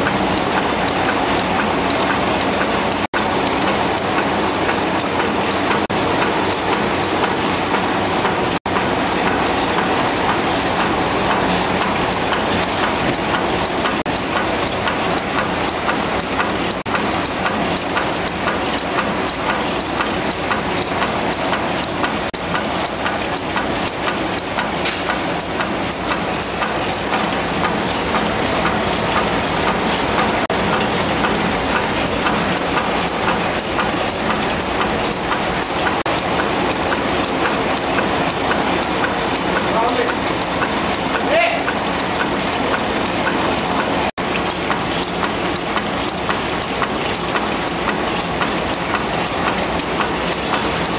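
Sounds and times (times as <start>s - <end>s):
printing machine clattering: 0.0s - 50.9s.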